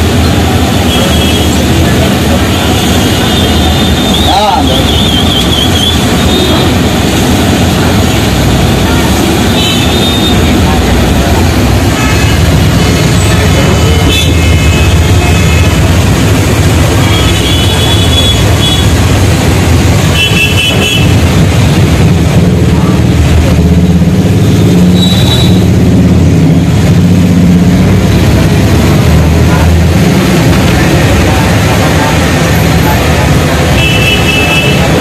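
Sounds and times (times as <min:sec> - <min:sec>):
bus engine running: 0:00.0 - 0:35.0.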